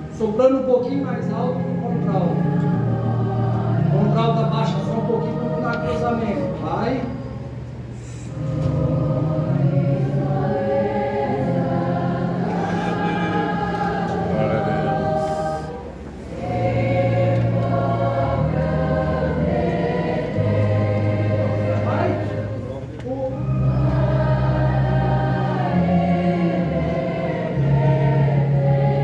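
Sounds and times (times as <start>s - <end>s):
saxophones: 1.4s - 29.0s.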